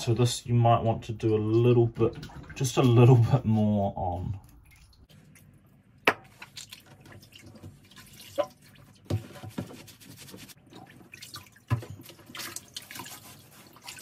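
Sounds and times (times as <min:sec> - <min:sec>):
water sloshing in a sink: 0:00.8 - 0:14.0.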